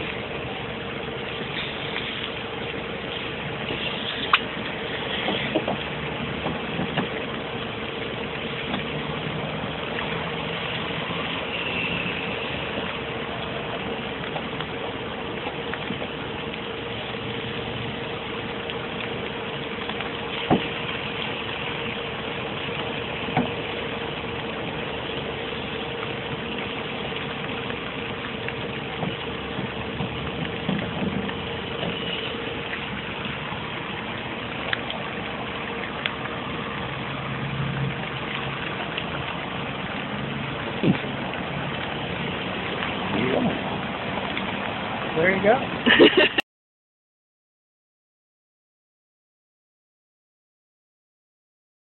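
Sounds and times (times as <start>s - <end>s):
engine-like hum: 0.0s - 46.4s.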